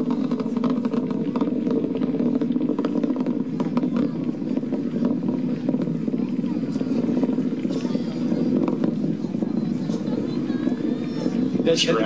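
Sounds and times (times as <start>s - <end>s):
rocket engine rumble and crackle: 0.0s - 12.0s.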